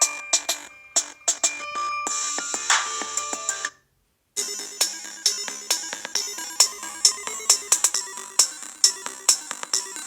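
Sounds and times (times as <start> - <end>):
electronic music from phone speaker: 0.0 - 3.8, 4.4 - 10.0.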